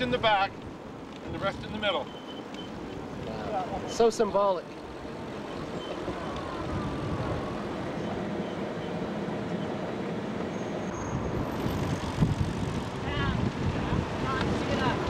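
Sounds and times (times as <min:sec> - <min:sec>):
vehicle road rumble and hiss: 0:00.0 - 0:15.0.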